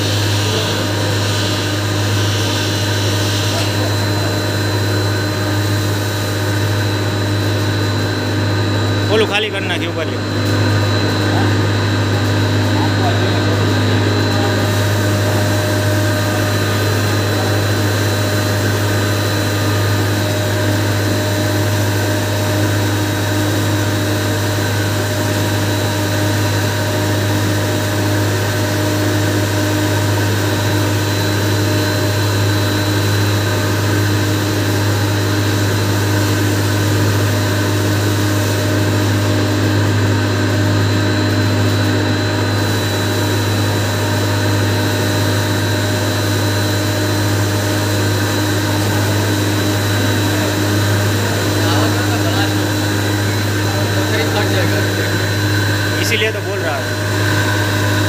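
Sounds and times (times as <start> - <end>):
grinding mill humming: 0.0 - 58.0
high whine: 0.0 - 58.0.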